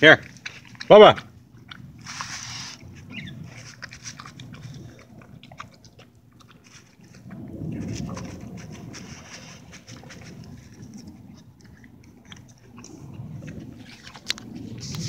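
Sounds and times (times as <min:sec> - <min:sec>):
dog chewing and crunching: 0:00.0 - 0:15.0.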